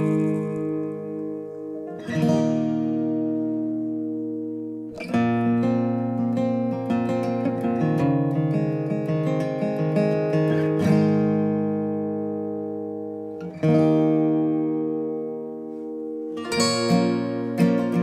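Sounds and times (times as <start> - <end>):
acoustic guitar picked notes: 0.0 - 18.0.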